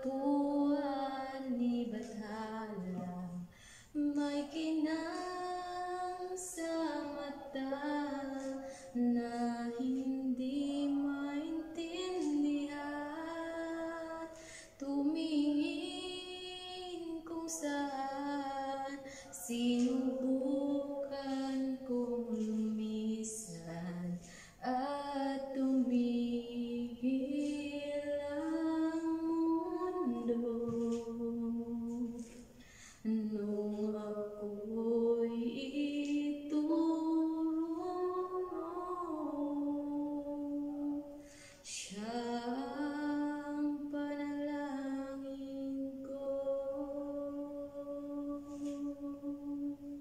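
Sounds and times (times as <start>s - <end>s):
woman singing a slow ballad: 0.0s - 50.0s.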